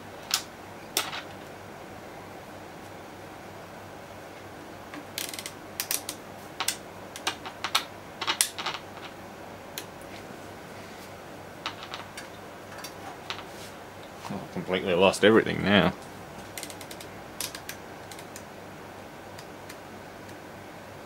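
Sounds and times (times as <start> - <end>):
low hiss and hum: 0.0 - 21.0.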